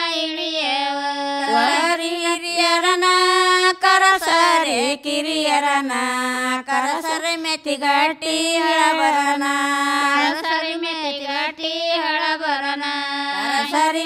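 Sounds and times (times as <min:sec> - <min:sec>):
women singing folk song: 0:00.0 - 0:14.0.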